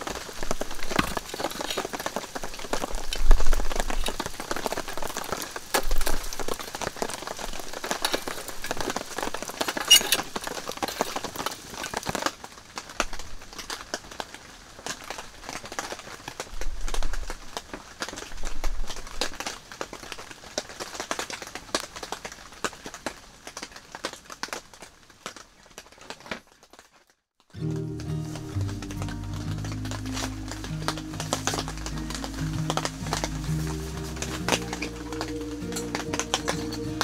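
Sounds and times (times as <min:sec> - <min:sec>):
wood fire crackling and popping: 0:00.0 - 0:26.9, 0:27.6 - 0:37.0
rain pattering: 0:00.0 - 0:37.0.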